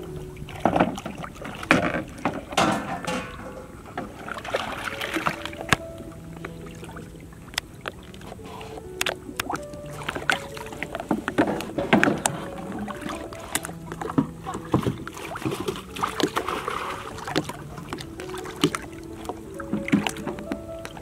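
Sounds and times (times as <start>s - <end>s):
water splashing and lapping: 0.0s - 21.0s.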